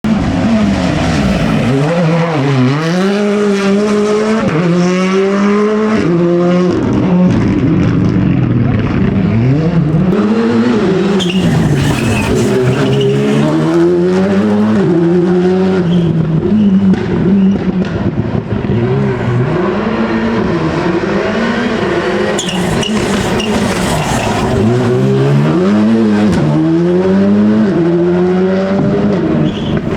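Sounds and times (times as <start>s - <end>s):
rally car engine revving: 0.1s - 29.9s.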